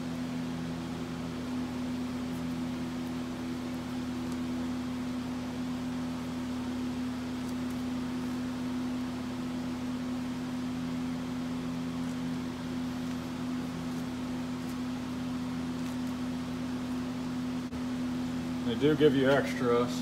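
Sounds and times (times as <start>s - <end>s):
fan motor humming: 0.0s - 20.0s.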